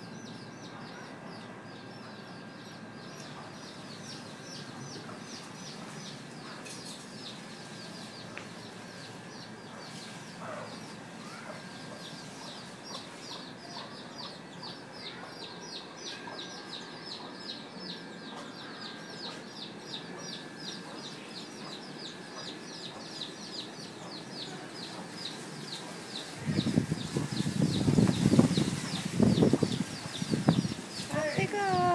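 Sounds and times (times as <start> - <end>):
chicks peeping: 0.0 - 31.9.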